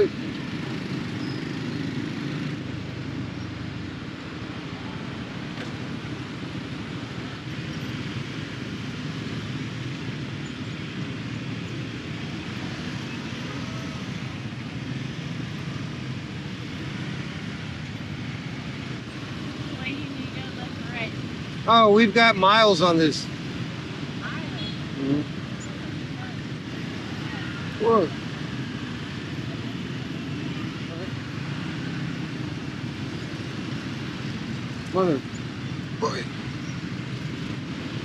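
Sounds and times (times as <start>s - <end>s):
city traffic: 0.0s - 38.0s.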